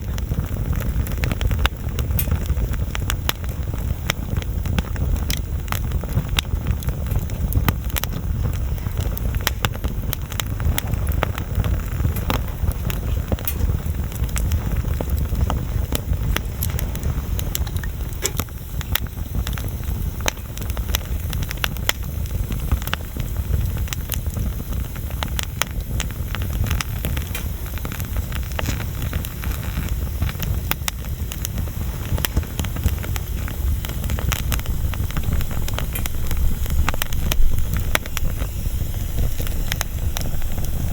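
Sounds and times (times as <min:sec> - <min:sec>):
burning wood crackling and popping: 0:00.0 - 0:40.9
fire low rumble: 0:00.0 - 0:40.9.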